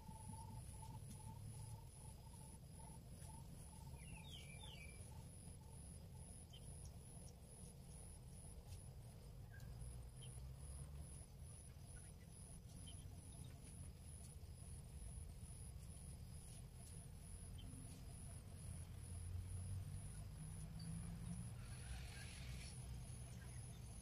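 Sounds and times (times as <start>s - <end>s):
faint low rumble: 0.0s - 24.0s.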